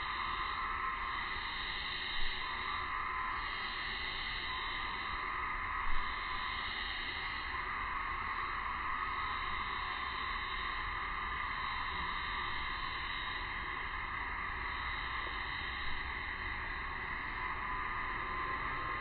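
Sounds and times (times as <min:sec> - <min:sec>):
cicada chorus drone: 0:00.0 - 0:19.0.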